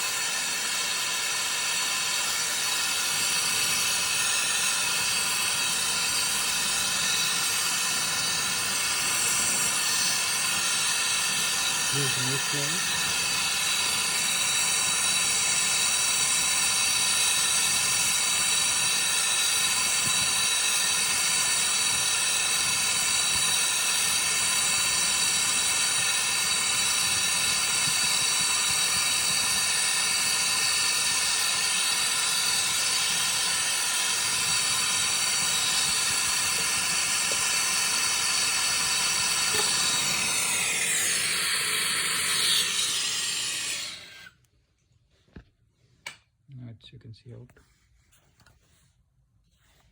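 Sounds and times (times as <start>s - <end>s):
gas torch flame hissing: 0.0s - 44.4s.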